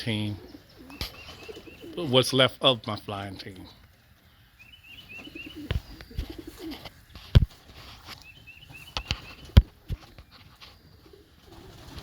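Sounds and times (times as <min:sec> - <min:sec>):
pigeons cooing: 0:00.0 - 0:02.4, 0:03.3 - 0:12.0.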